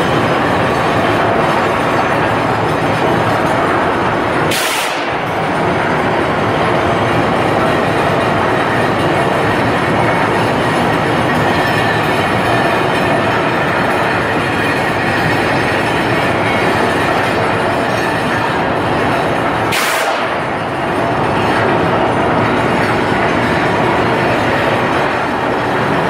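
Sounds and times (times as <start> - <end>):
machine rumbling and rattling: 0.0 - 26.0.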